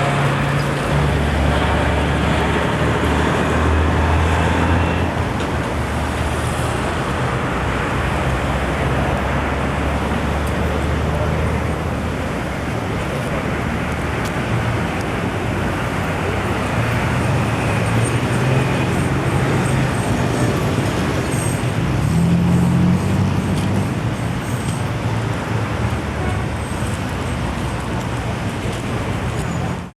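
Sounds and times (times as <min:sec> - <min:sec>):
road traffic rush: 0:00.0 - 0:29.9.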